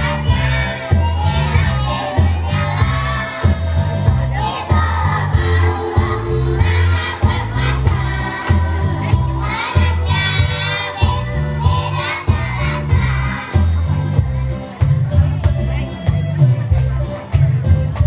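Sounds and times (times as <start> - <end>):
children's choir singing: 0.0 - 14.7
backing track with heavy bass beat: 0.0 - 18.0.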